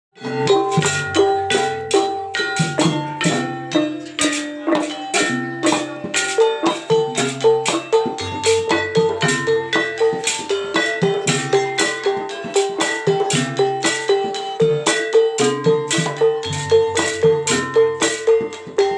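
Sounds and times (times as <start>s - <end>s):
gong-chimes and metallophones: 0.2s - 18.9s.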